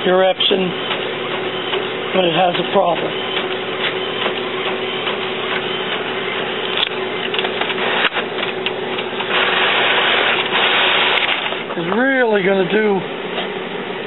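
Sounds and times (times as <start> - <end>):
inkjet printer whirring: 0.0 - 14.0.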